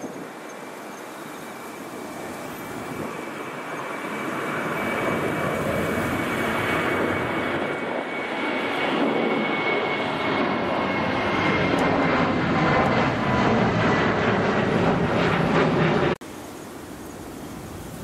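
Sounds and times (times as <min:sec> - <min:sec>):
airliner engine rush: 0:00.0 - 0:18.0.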